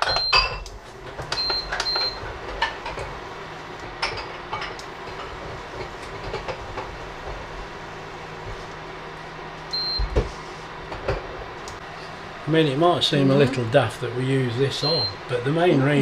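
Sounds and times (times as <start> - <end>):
electric hob beeping: 0.0 - 16.0
electric hob humming: 0.0 - 16.0.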